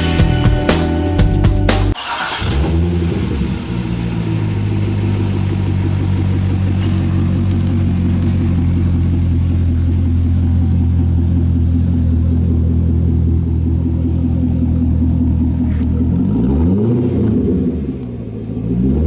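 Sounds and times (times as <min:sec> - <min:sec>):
car engine starting and idling: 0:01.7 - 0:19.0.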